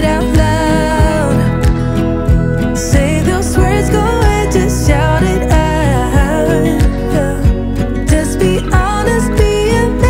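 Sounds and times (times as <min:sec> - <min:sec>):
pop music with kick drum: 0:00.0 - 0:10.0.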